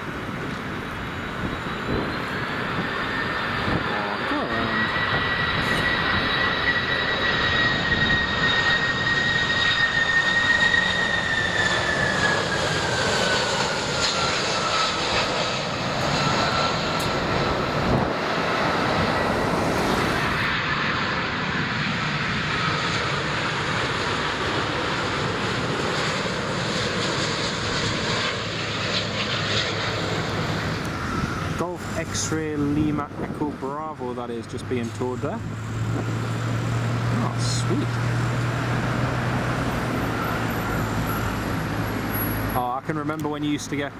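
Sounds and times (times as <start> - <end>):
high engine whine: 0.0 - 43.9
jet engines roaring: 0.0 - 43.9.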